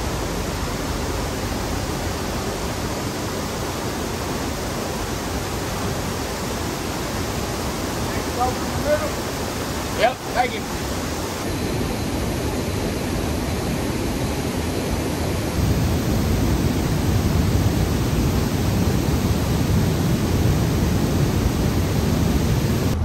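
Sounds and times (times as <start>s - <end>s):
water gushing: 0.0s - 23.0s.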